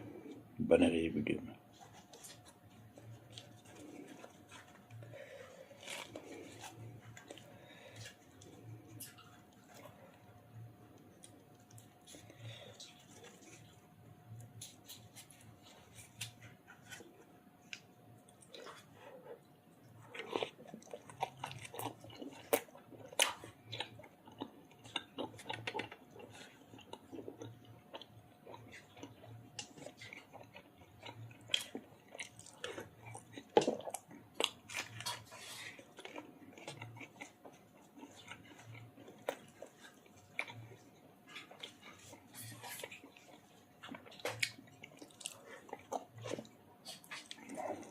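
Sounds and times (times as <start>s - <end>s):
person chewing food: 0.0s - 0.5s, 1.6s - 47.9s.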